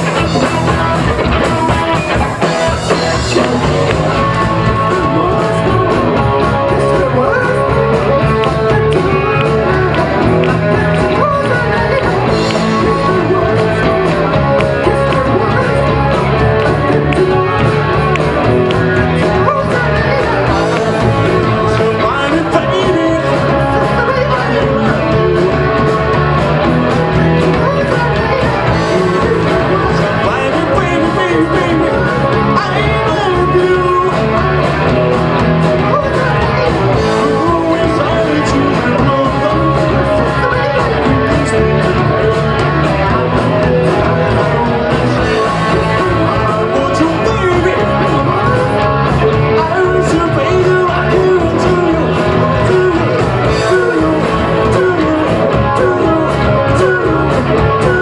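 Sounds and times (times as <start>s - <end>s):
bass guitar: 0.0s - 58.0s
distorted electric guitar: 0.0s - 58.0s
person singing: 0.0s - 58.0s
steady drum beats: 0.0s - 58.0s.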